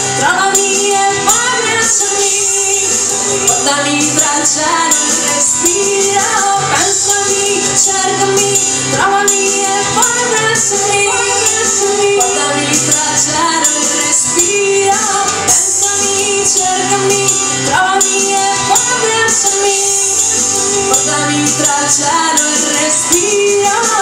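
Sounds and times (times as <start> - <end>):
band playing: 0.0 - 24.0
drums: 0.0 - 24.0
woman singing: 0.0 - 24.0.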